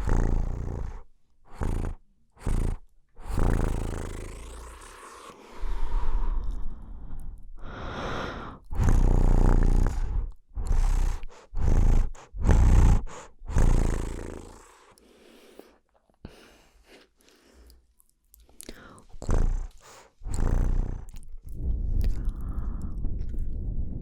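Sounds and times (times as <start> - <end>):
faint mouth sounds: 0.0 - 24.0.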